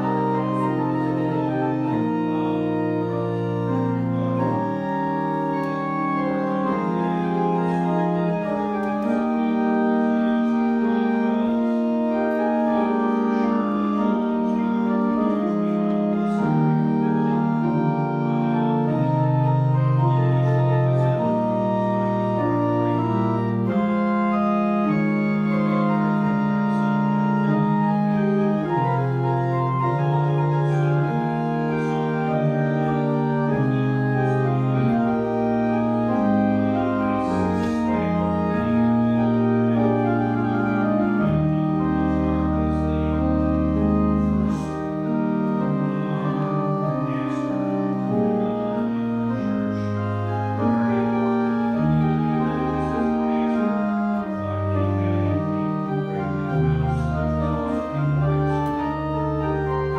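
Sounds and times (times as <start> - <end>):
low organ bass notes: 0.0 - 59.9
pipe organ chords: 0.0 - 59.9.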